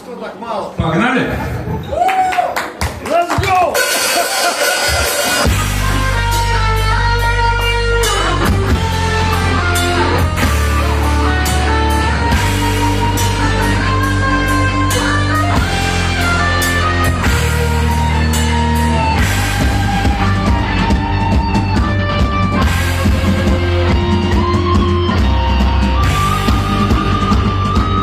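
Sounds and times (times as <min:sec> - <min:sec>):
heavy metal band playing: 0:03.7 - 0:28.0.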